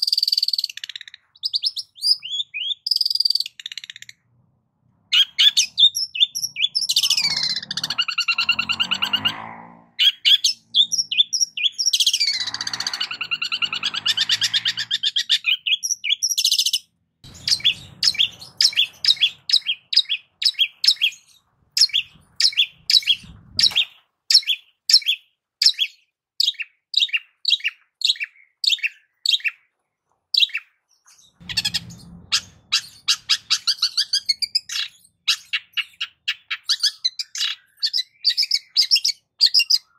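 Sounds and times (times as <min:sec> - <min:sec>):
bird sharp chirps: 0:00.0 - 0:04.3, 0:05.1 - 0:29.7, 0:30.4 - 0:39.9
bird singing gliding phrases: 0:00.0 - 0:39.9.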